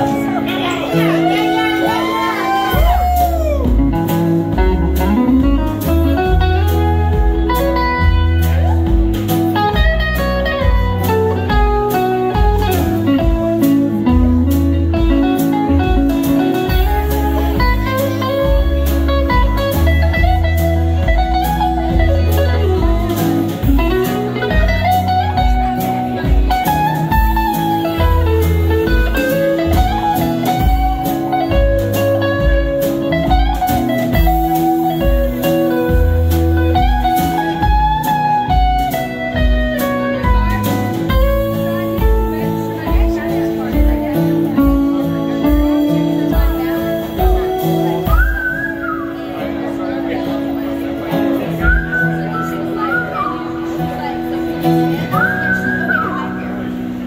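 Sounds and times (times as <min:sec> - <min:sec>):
lead guitar bending notes: 0:00.0 - 0:57.0
drum and bass groove: 0:02.0 - 0:48.6.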